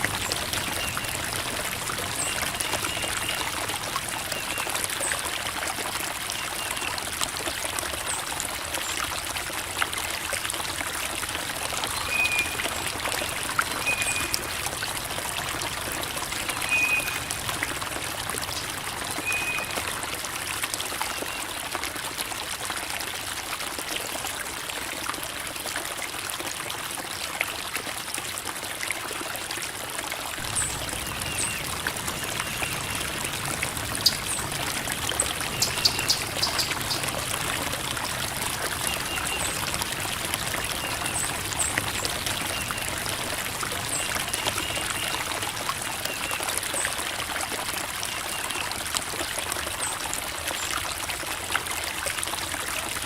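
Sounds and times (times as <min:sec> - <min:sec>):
creek water babbling over rocks: 0:00.0 - 0:53.0.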